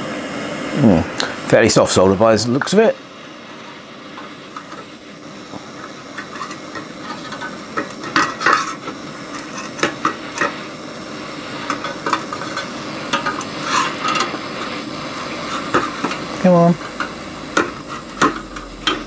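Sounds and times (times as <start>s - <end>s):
torch hissing: 0.0s - 19.0s.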